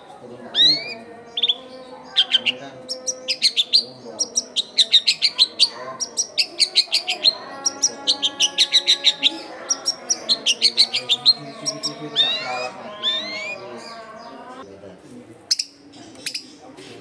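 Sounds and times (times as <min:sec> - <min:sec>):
shrike chattering song: 0:00.5 - 0:14.6.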